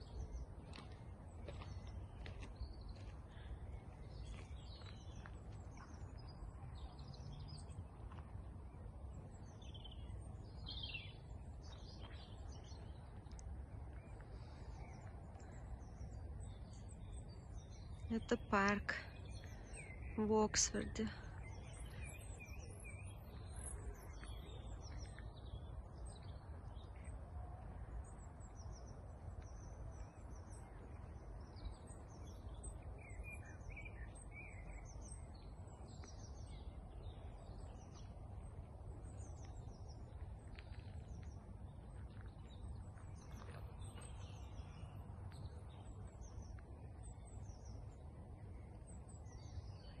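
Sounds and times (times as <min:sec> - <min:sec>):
small birds chirping: 0:00.0 - 0:27.2, 0:28.0 - 0:50.0.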